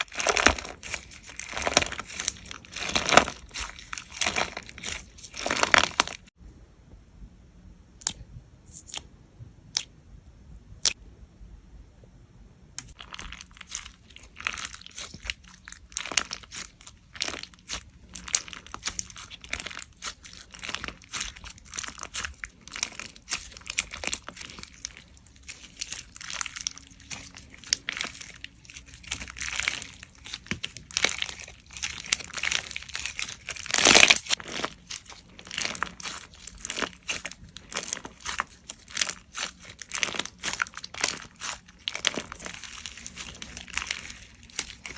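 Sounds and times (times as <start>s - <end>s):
slime crackling and popping: 0.0s - 6.3s, 12.8s - 44.9s.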